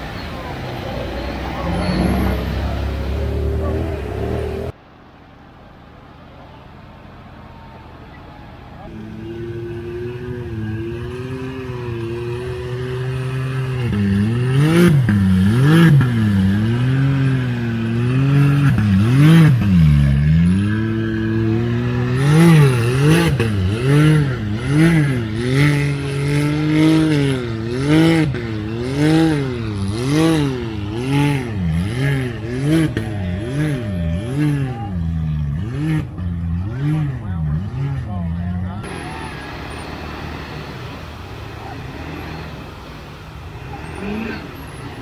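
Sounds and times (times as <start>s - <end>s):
engine revving: 8.9s - 45.0s.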